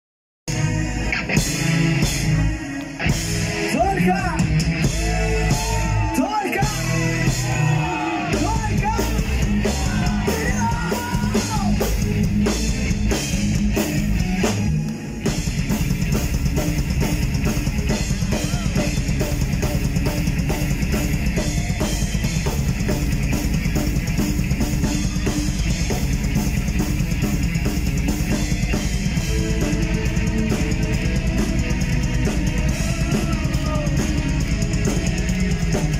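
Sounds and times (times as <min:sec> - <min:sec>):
heavy metal band playing live: 0:00.5 - 0:35.9
rapid drumming: 0:03.0 - 0:35.9.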